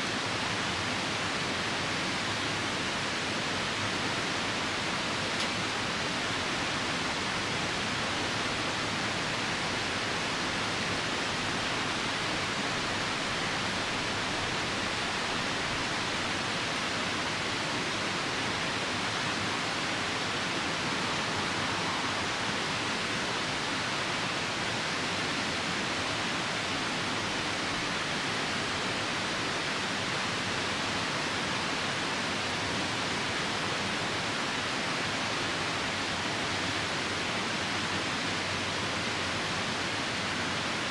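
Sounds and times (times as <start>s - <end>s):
falling rain: 0.0s - 40.9s
river rushing: 0.0s - 40.9s.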